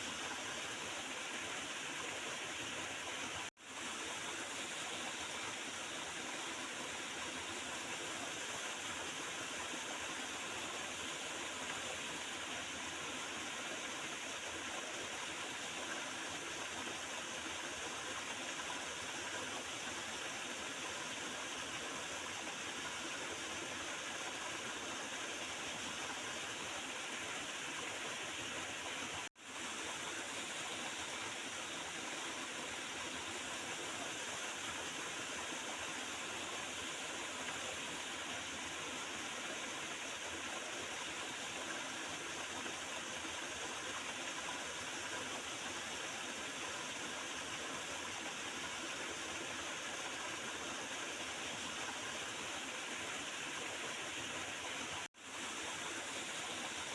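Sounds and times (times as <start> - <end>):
river water running and gurgling: 0.0 - 56.9.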